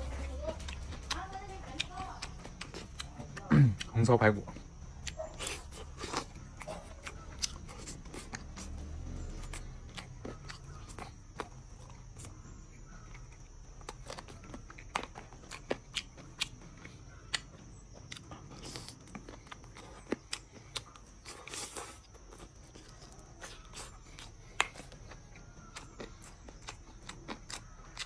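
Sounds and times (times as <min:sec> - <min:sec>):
man chewing with wet clicks: 0:00.0 - 0:28.0.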